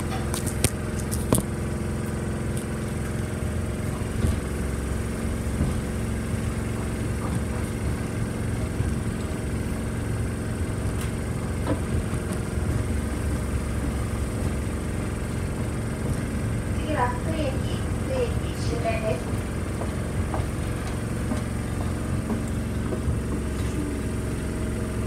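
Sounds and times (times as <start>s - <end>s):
tram motor hum: 0.0s - 25.0s
wheels knocking on rail joints: 0.0s - 25.0s.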